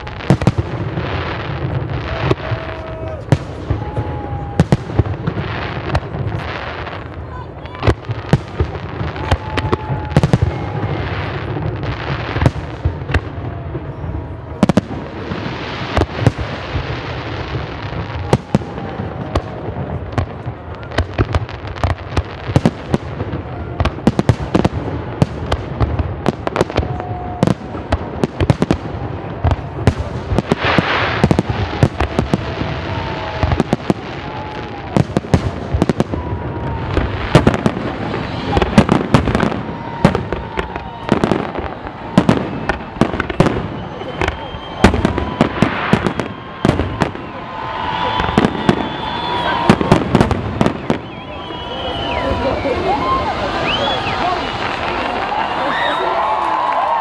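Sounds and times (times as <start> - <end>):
firework crackle: 0.0 - 57.0.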